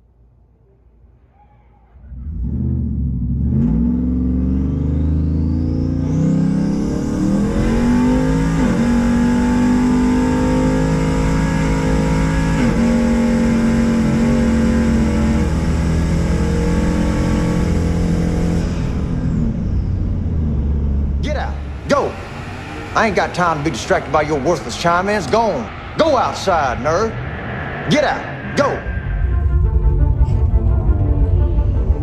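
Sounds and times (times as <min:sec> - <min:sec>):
car engine accelerating: 0:02.0 - 0:32.0.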